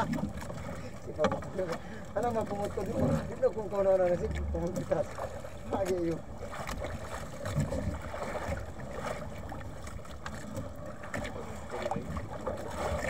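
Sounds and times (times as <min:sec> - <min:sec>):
water: 0:00.0 - 0:13.0
wind: 0:00.0 - 0:13.0.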